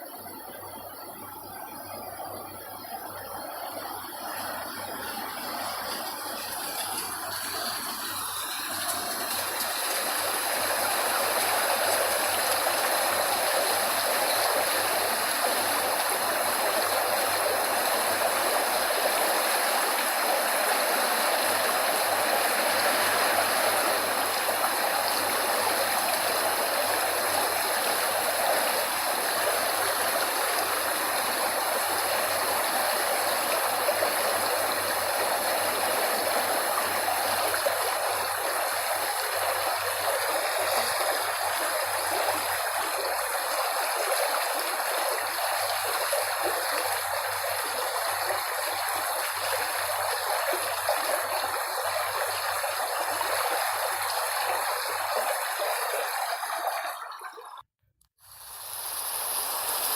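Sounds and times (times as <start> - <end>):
flowing water rushing: 0.0 - 57.7.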